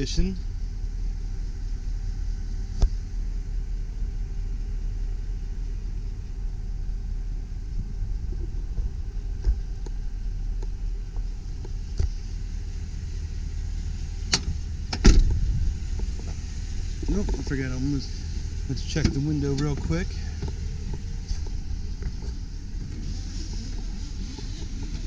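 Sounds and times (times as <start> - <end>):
pickup engine idling: 0.0 - 25.0.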